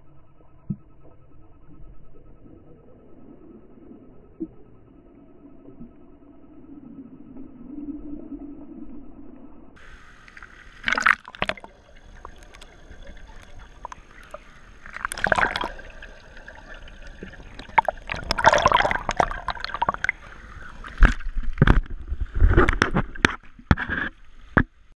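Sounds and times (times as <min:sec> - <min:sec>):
water splashing and gurgling: 0:02.1 - 0:24.8.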